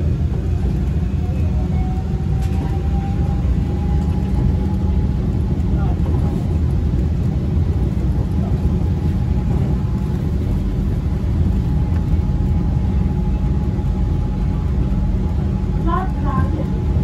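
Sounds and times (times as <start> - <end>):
monorail car rumble and whir: 0.0 - 17.0.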